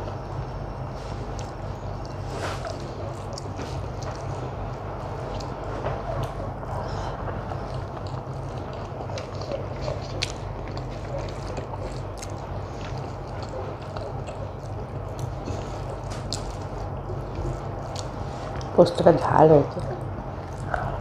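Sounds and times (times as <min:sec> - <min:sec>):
person chewing food: 0:01.1 - 0:18.7, 0:20.4 - 0:21.0.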